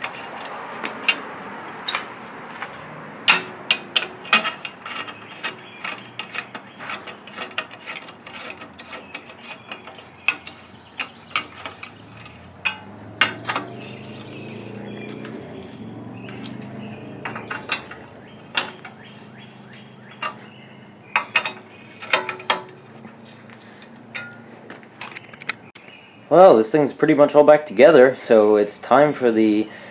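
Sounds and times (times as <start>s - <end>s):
sharp clicks and knocks on engine parts: 0.0s - 26.0s.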